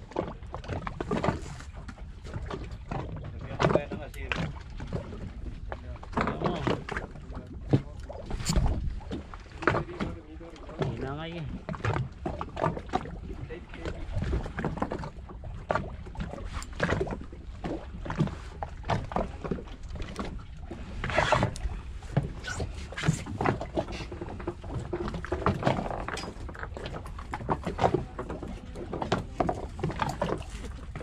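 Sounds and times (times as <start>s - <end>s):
water slapping against hull: 0.0s - 31.0s.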